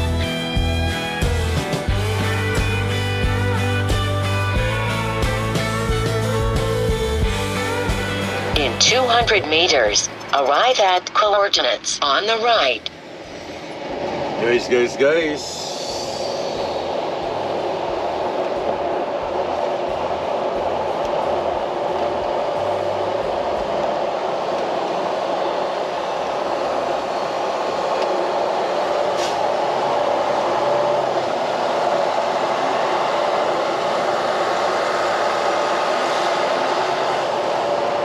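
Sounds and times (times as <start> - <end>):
truck engine and road noise: 0.0 - 38.0.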